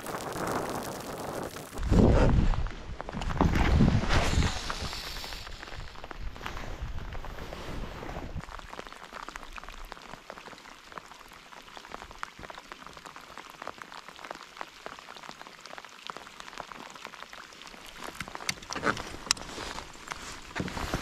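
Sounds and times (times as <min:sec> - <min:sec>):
rain falling on lake: 0:00.0 - 0:01.8, 0:04.5 - 0:07.7, 0:08.3 - 0:21.0.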